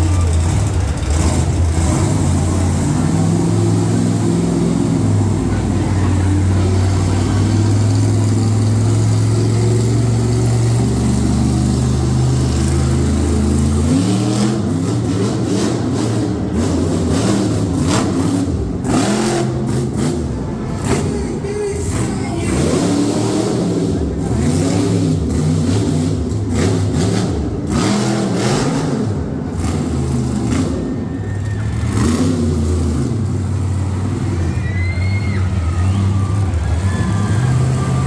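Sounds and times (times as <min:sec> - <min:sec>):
monster truck engine revving: 0:00.0 - 0:38.0.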